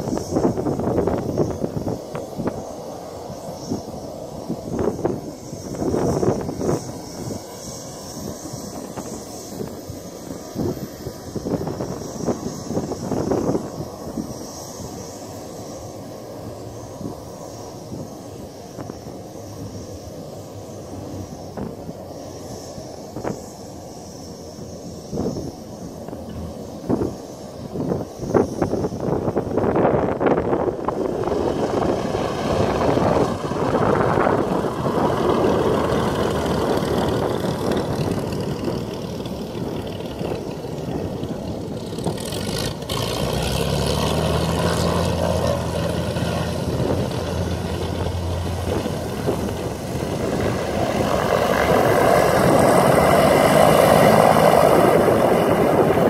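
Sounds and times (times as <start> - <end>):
propeller aircraft engines droning: 0.0 - 56.0.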